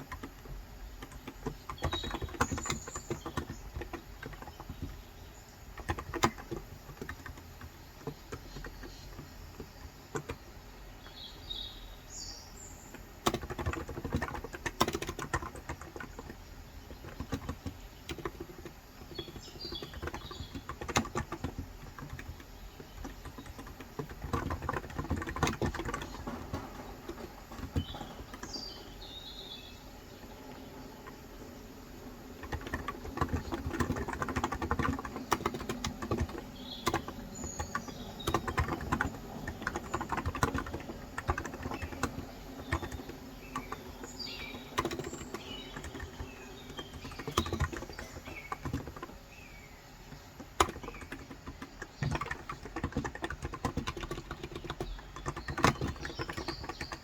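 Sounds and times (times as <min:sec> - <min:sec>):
typing on keyboard: 0:00.0 - 0:11.6, 0:12.9 - 0:49.4, 0:50.0 - 0:57.0
birds chirping: 0:00.0 - 0:57.0.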